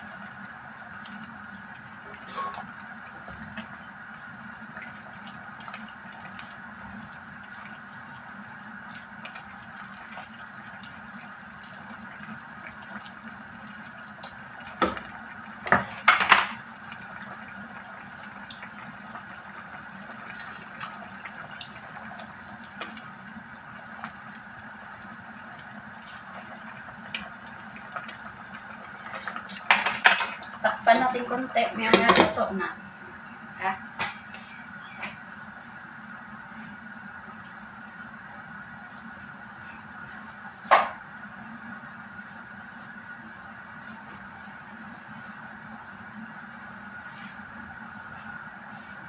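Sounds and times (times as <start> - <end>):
broth simmering: 0.0 - 49.0.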